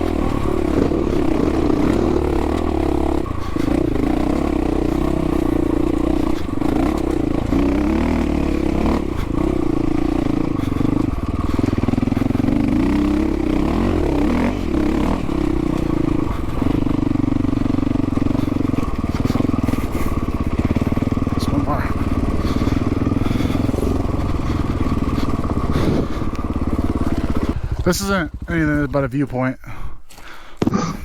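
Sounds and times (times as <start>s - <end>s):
motorcycle engine running: 0.0s - 29.8s.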